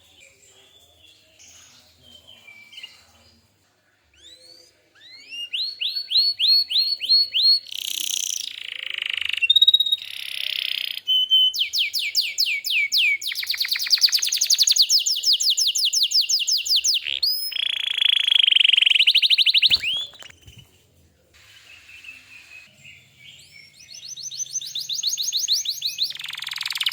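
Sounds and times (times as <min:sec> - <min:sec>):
canary singing trills: 0:04.2 - 0:20.7, 0:21.4 - 0:26.9.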